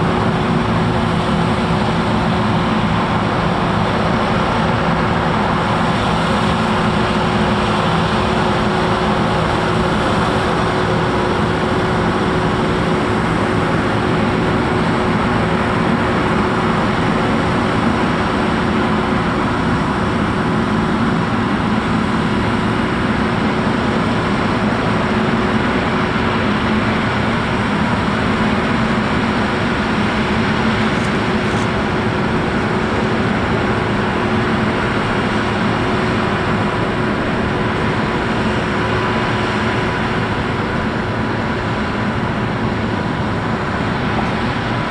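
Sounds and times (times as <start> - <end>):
combine harvester drone: 0.0 - 44.9.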